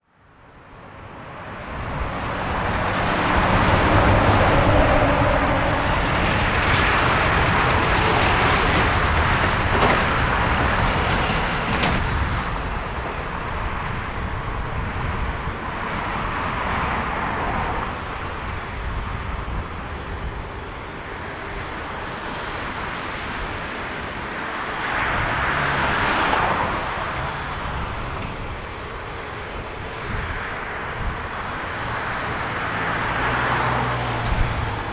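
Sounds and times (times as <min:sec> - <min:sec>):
jet engines rumbling: 0:00.3 - 0:34.9.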